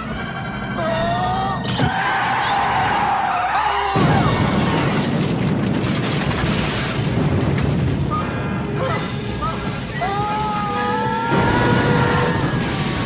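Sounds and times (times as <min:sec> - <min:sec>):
film soundtrack music: 0:00.0 - 0:05.6, 0:07.4 - 0:13.0.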